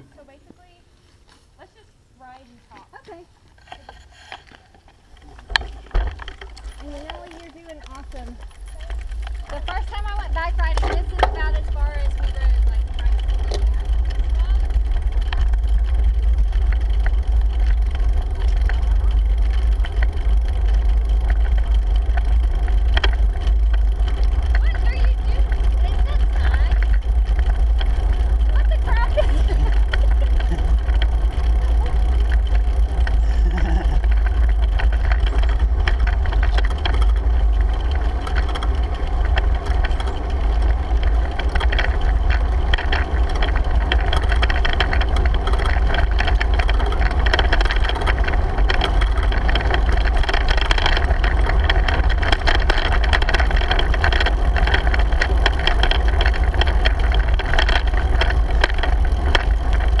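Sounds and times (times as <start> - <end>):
tyre and road noise: 0.0 - 60.0
small ticks and rattles: 2.3 - 60.0.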